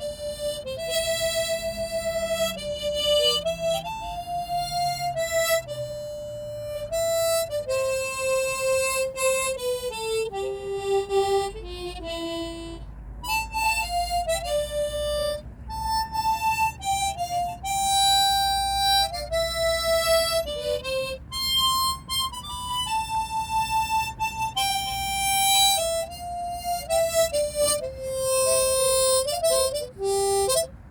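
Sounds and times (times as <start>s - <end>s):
harmonica playing slow melody: 0.0s - 30.9s.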